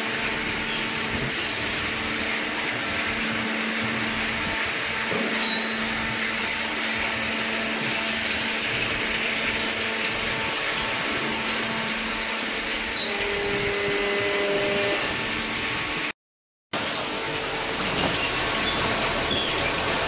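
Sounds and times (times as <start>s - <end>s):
steady machine tone: 0.0s - 16.1s.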